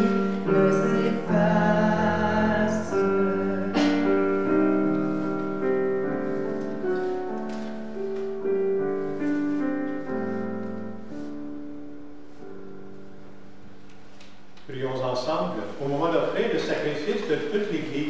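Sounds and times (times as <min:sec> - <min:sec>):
sustained keyboard hymn chords: 0:00.0 - 0:18.0.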